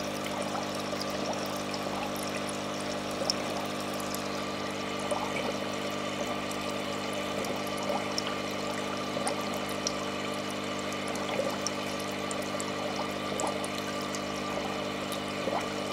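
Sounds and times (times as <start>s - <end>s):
pump hum: 0.0s - 15.9s
water trickling and bubbling: 0.0s - 15.9s.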